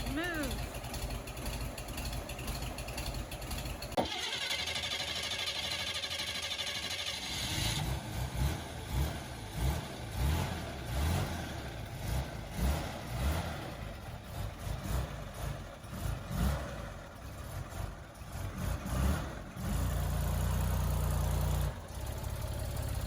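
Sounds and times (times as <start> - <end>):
car engine lumpy exhaust note: 0.0 - 4.0, 7.5 - 23.0.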